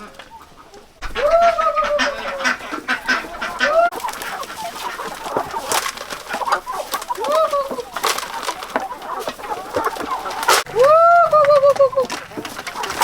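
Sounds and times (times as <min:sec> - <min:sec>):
chickens clucking: 0:00.0 - 0:13.0
drawn-out hen call: 0:00.0 - 0:13.0.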